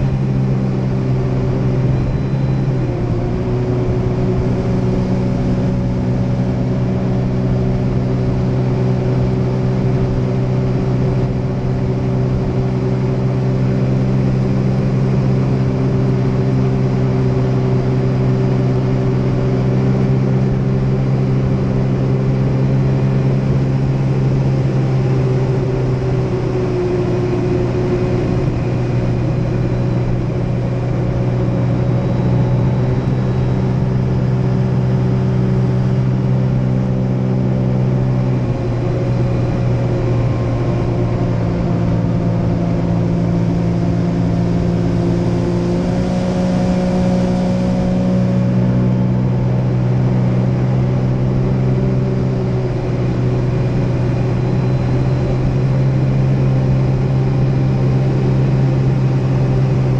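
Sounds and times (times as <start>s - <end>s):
jet ski engine droning: 0.0s - 59.9s.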